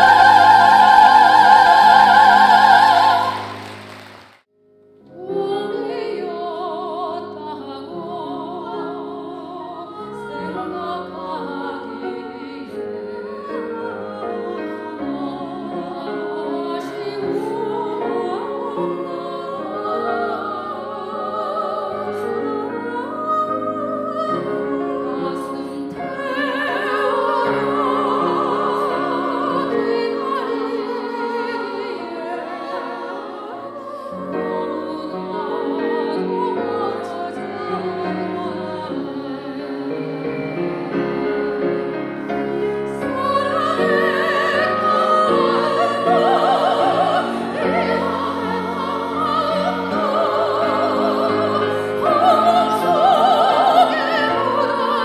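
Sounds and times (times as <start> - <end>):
women singing in harmony: 0.0 - 3.9, 5.1 - 55.0.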